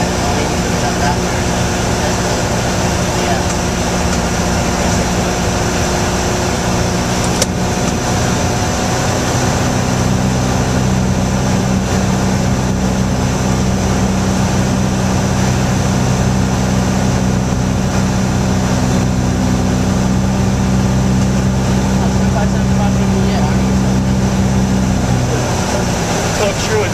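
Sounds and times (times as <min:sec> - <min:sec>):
airplane engine and propeller droning: 0:00.0 - 0:26.9.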